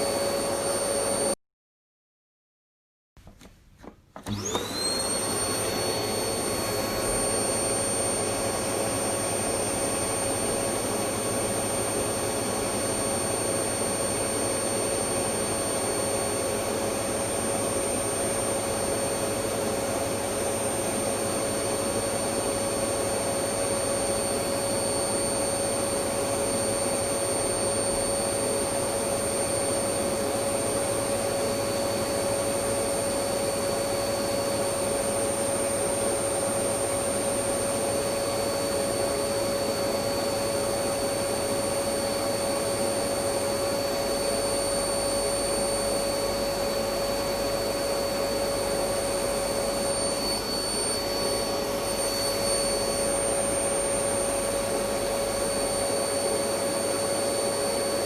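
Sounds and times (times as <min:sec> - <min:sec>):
vacuum cleaner motor whining: 0:00.0 - 0:01.4, 0:04.2 - 0:58.0.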